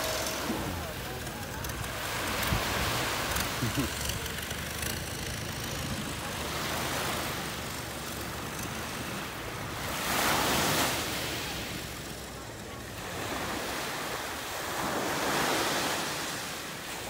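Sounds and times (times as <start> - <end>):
boat engine running: 0.0 - 15.2
rush of water and wind: 0.0 - 17.0
small waves washing at shore: 0.0 - 17.0.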